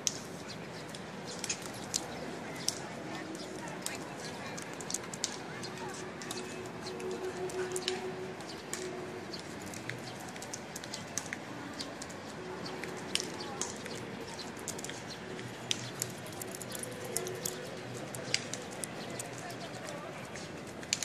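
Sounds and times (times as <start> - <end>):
outdoor background: 0.0 - 21.0.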